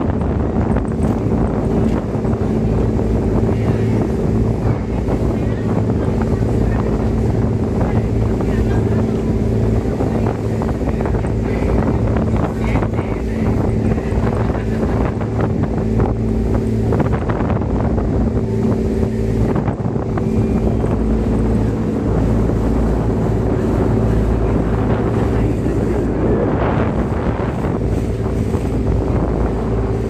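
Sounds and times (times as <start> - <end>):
boat engine running: 0.0 - 30.0
wind on microphone: 0.0 - 30.0.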